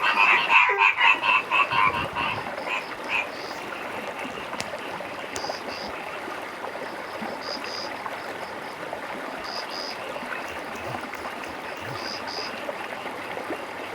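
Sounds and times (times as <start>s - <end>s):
stream water flowing: 0.0s - 13.9s.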